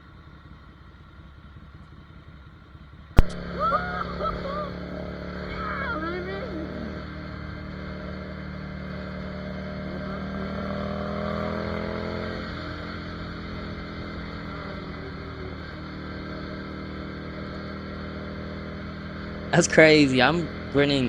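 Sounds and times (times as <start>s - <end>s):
motorcycle engine revving: 3.2s - 21.0s.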